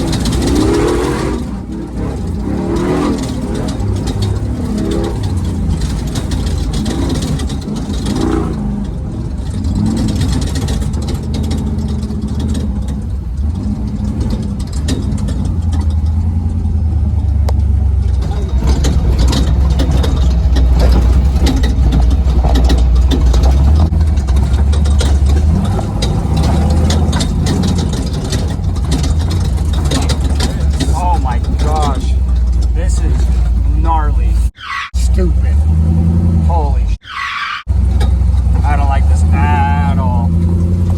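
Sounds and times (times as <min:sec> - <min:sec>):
sharp clicks and knocks: 0:00.0 - 0:34.1, 0:37.6 - 0:40.9
truck engine under load: 0:00.0 - 0:40.9.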